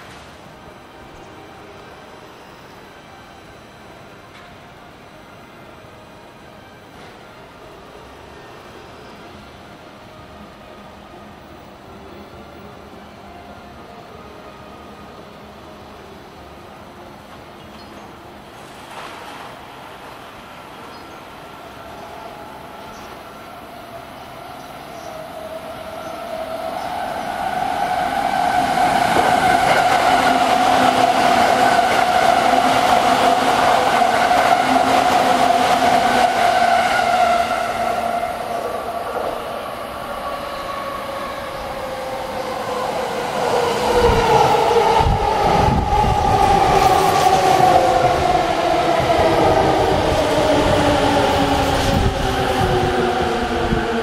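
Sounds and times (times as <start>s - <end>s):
steady train noise with held tone: 0.0s - 54.0s.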